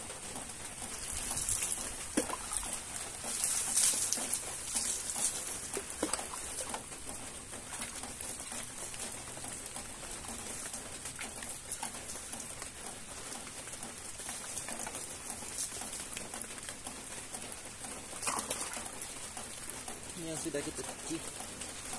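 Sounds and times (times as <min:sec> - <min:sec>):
light rain patter: 0:00.0 - 0:21.9
water splashing onto ground: 0:00.0 - 0:21.9.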